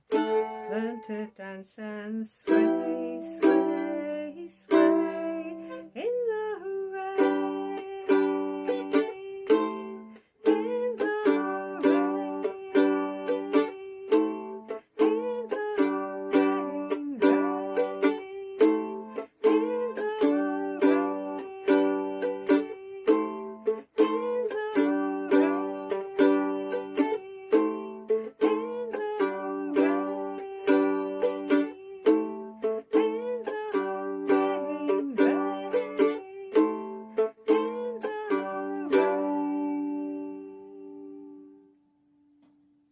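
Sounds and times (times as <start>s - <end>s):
mandolin playing: 0.0s - 1.3s, 2.4s - 42.8s.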